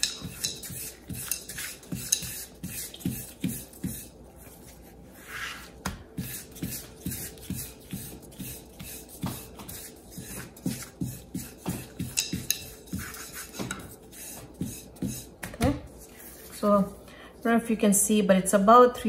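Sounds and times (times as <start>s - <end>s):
rolling pin scraping dough: 0.0s - 18.0s.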